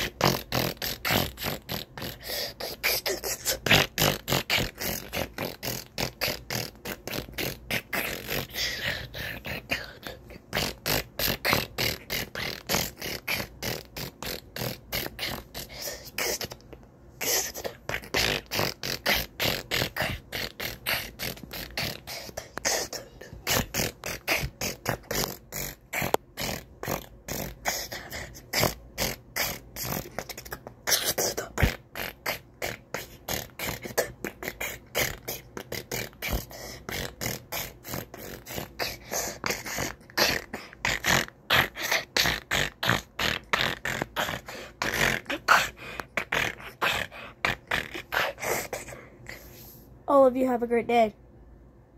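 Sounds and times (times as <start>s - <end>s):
boy beatboxing: 0.0s - 51.1s.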